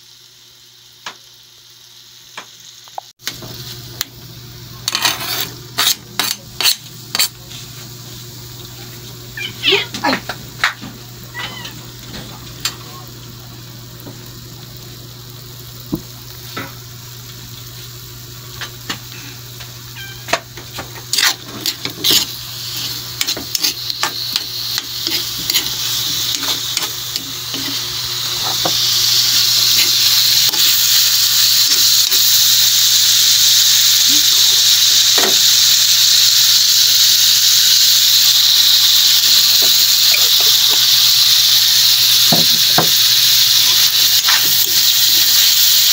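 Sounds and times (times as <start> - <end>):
meat sizzling in a wok: 0.0 - 45.9.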